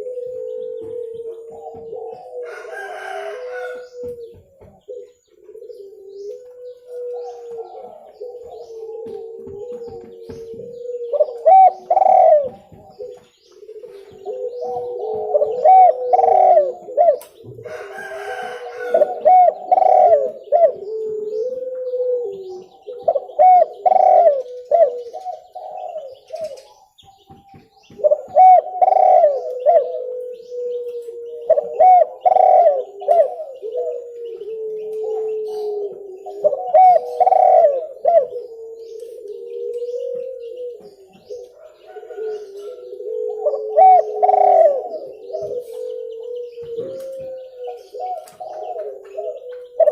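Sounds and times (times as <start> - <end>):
dove cooing: 0.0 - 49.9.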